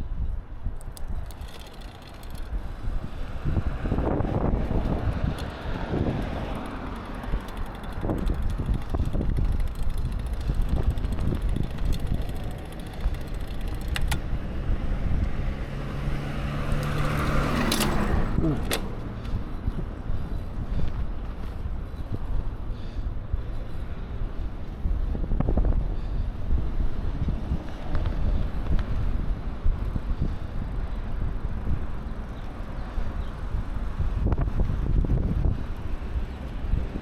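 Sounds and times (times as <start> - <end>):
rolling road noise: 0.0 - 37.0
wind rumbling over microphone: 0.0 - 37.0.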